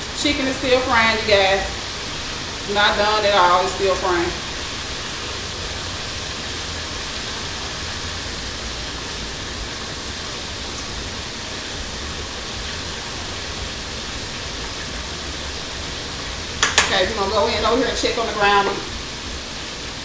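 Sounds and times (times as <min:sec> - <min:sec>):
chicken frying in hot oil: 0:00.0 - 0:20.0.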